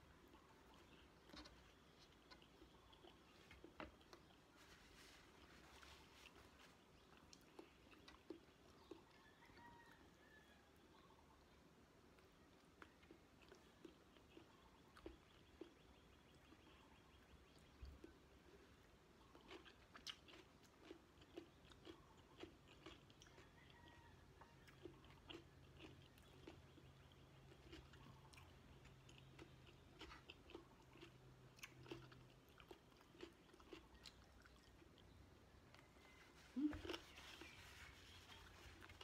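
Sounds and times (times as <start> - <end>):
person chewing food: 0.0 - 10.2, 12.1 - 39.0.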